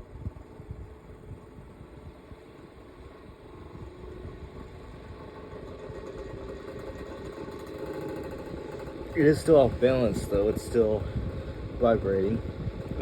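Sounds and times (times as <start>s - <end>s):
electric fan motor hum: 0.0s - 13.0s
fan rattling vibration: 0.0s - 13.0s.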